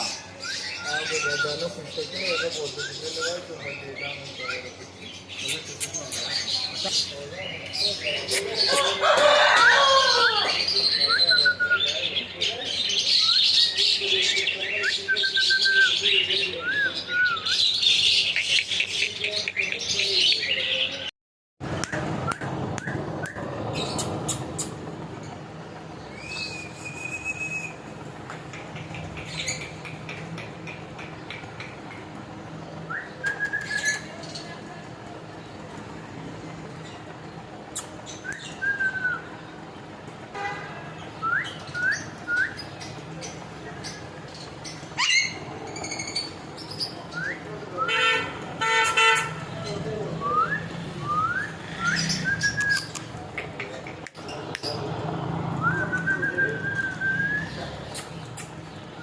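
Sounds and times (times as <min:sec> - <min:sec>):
parrots chattering and chirping: 0:00.0 - 0:21.1, 0:21.8 - 0:27.0, 0:27.9 - 0:39.0, 0:41.0 - 0:50.0, 0:51.6 - 0:55.1, 0:57.4 - 0:58.9.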